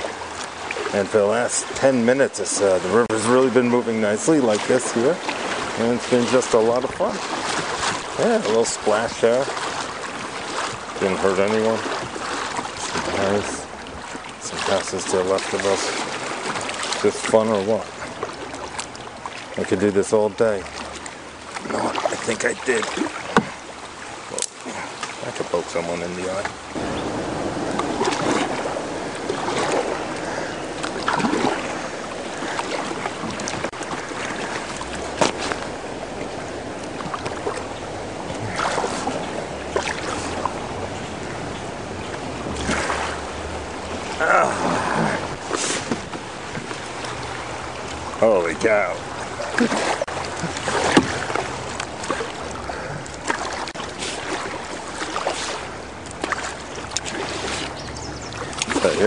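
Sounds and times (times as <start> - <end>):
paddle splashes: 0.0 - 59.0
rushing river water: 0.0 - 59.0.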